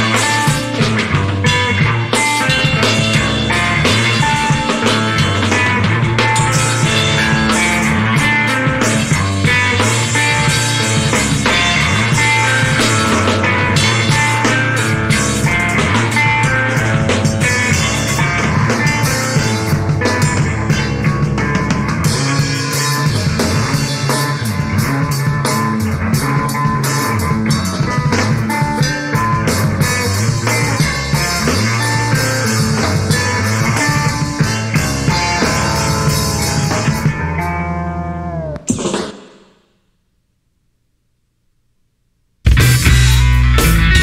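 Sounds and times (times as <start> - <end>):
electric bass guitar: 0.0 - 38.9, 42.4 - 44.0
busy drum kit: 0.0 - 39.7, 42.4 - 44.0.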